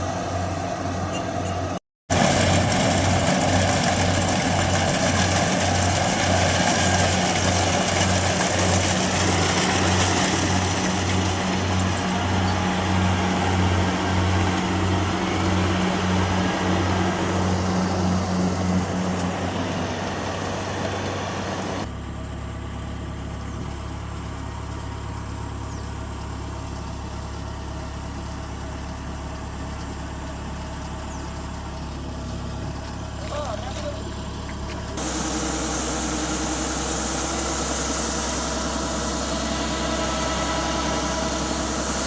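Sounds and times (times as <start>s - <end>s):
combine harvester engine throbbing: 0.0s - 42.0s.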